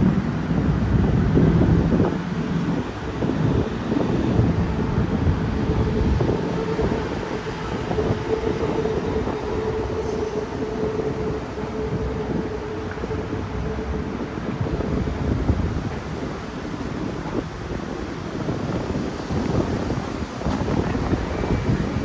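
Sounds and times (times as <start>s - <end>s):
held hum: 0.0s - 22.0s
train rumbling on elevated track: 0.0s - 22.0s.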